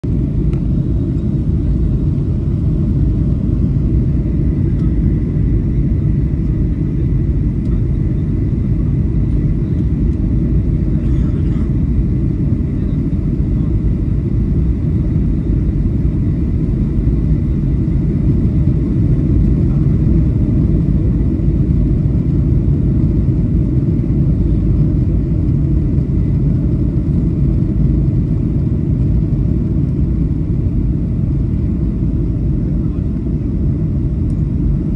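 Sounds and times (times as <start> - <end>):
airliner cabin low rumble: 0.0 - 34.9.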